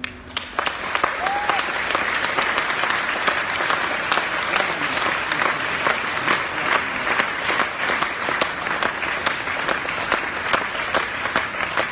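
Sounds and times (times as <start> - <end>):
rhythmic distinct claps: 0.0 - 11.9
audience applauding: 0.3 - 11.9.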